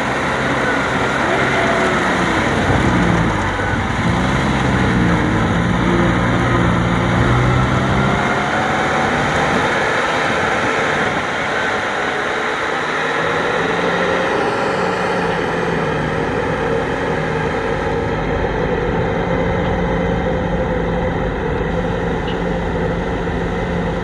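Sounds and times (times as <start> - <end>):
tiller churning mud and water: 0.0 - 24.0
tractor diesel engine running: 0.0 - 24.0.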